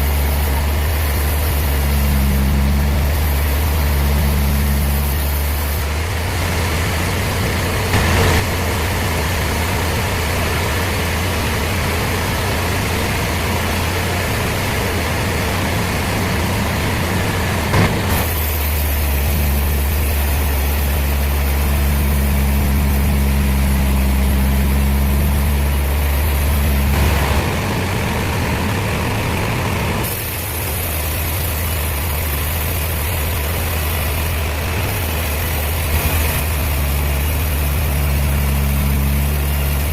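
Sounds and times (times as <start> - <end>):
heavy engine humming: 0.0 - 39.9.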